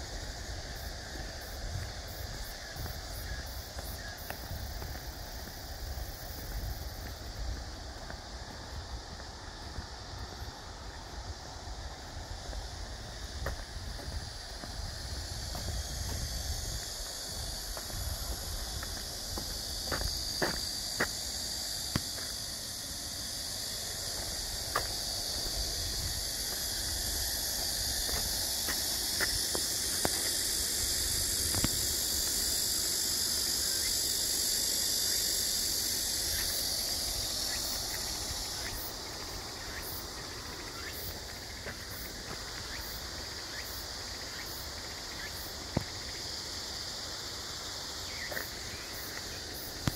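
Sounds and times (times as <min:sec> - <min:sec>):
cicadas buzzing: 0:00.0 - 0:49.9.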